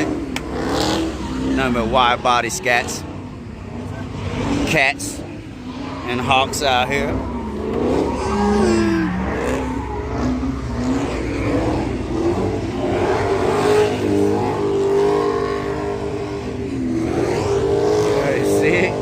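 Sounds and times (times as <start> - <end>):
car engines revving: 0.0 - 19.0
engines idling: 0.0 - 19.0.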